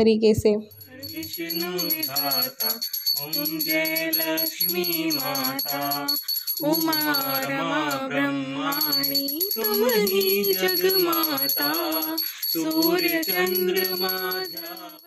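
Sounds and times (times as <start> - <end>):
person singing a hymn: 1.0 - 15.0.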